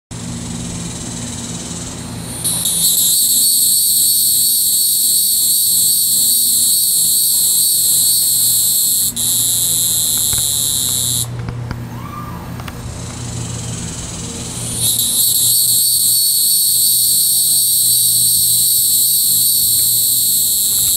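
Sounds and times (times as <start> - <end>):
cicada buzzing: 0.1 - 11.4, 12.7 - 20.9.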